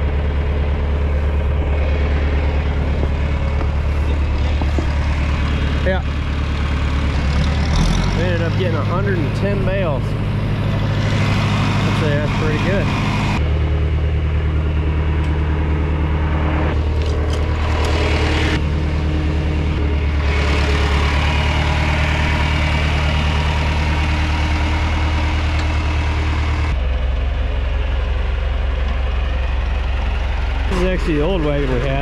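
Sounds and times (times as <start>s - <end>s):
tractor engine humming: 0.0s - 32.0s.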